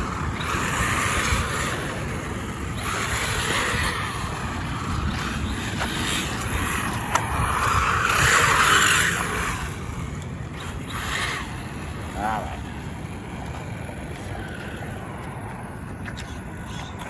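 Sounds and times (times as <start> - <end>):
rc car motor and tyres hissing: 0.0 - 17.0
wind on microphone: 0.0 - 17.0.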